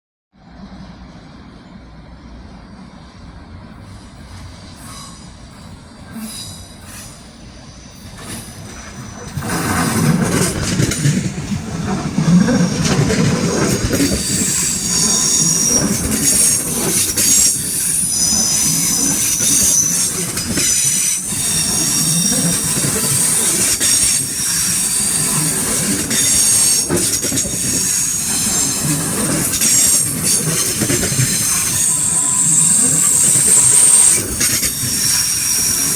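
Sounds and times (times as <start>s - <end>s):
rumble of train cars: 0.3s - 35.9s
train wheels squealing on rails: 0.4s - 35.9s.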